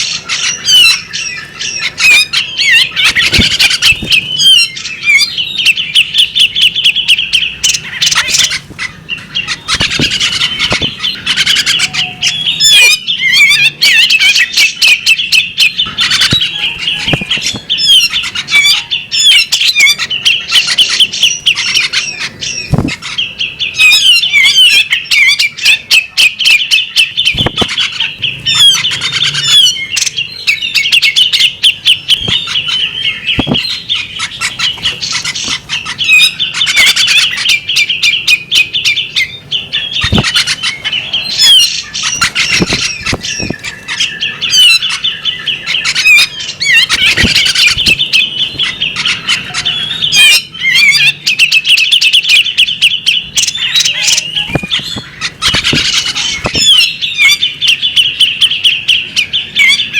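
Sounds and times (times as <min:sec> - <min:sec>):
bird chattering and whistling: 0:00.0 - 0:59.9.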